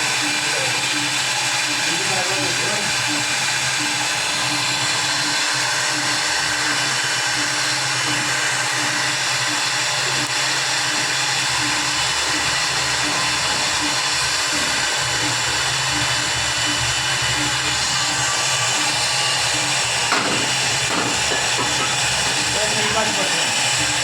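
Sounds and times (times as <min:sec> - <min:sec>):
spindle continuous whine: 0:00.0 - 0:24.0.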